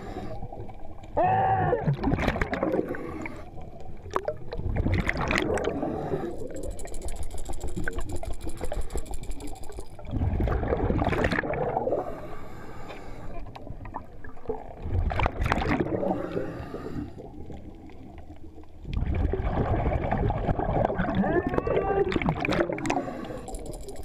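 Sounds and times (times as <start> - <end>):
exhaled bubbles underwater: 0.0 - 12.3, 13.4 - 24.0.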